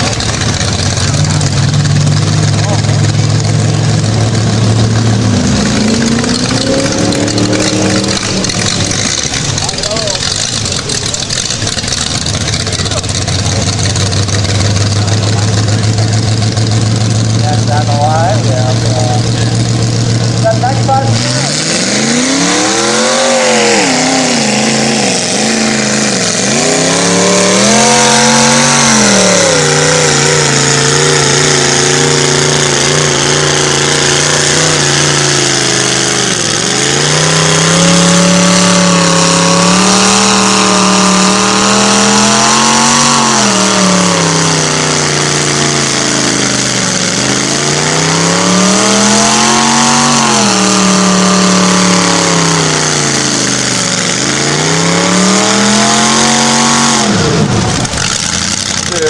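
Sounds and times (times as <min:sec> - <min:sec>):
tires churning mud: 0:00.0 - 0:59.0
truck engine revving: 0:00.0 - 0:59.0.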